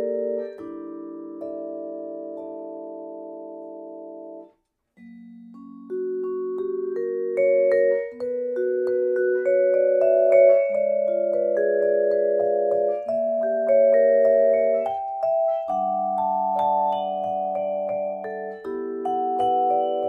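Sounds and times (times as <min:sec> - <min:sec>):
vibraphone chords and melody: 0:00.0 - 0:20.0.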